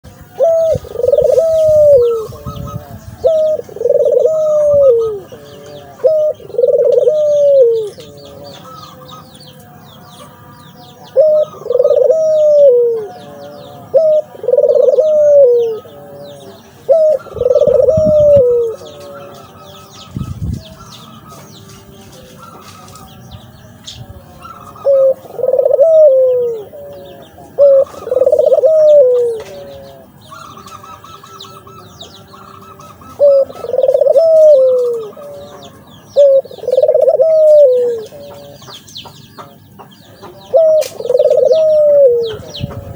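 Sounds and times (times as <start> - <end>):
dove cooing: 0.0 - 42.9
small birds chirping: 0.0 - 42.9.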